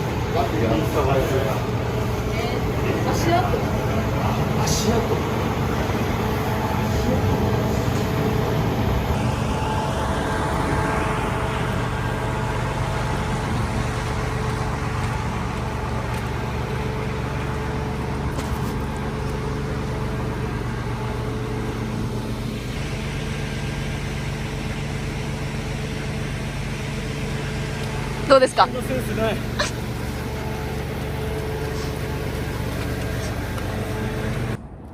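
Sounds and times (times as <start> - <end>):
low engine hum: 0.0 - 34.9
road noise: 0.0 - 34.9.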